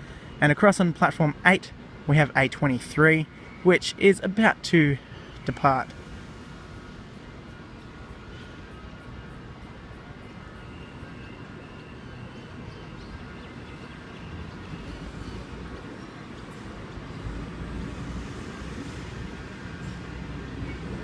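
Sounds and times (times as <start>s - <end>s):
electric train rumbling: 0.0s - 21.0s
faint train whine: 0.0s - 21.0s.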